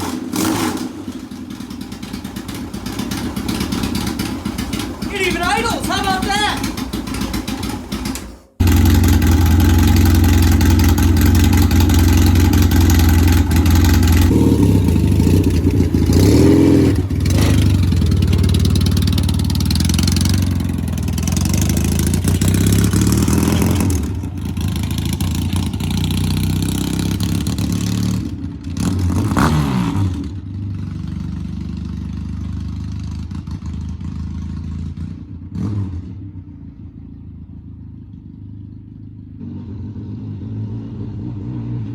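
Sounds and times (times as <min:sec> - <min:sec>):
motorcycle engine running and revving: 0:00.0 - 0:41.9.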